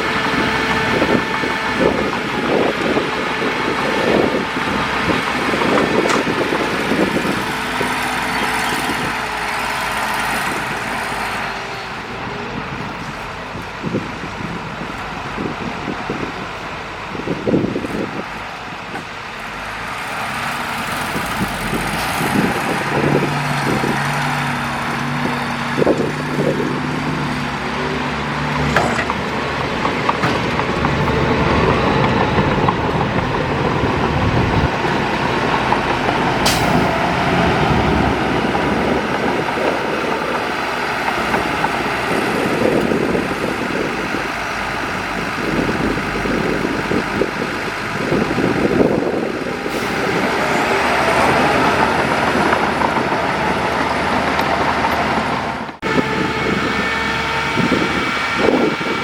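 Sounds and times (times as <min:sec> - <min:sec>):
heavy machinery diesel engines rumbling: 0:00.0 - 0:59.0.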